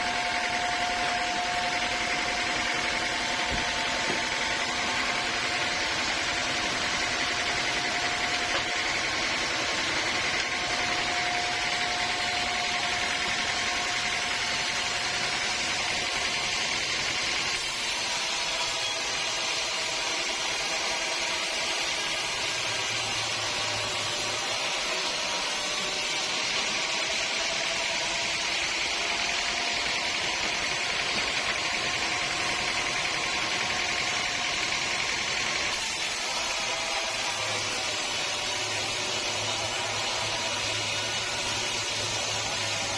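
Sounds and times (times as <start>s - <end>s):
sawmill machinery running: 0.0s - 42.9s.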